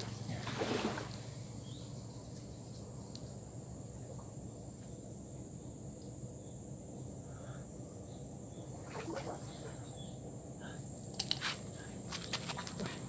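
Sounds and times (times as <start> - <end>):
high-pitched insect trill: 1.2 - 13.0.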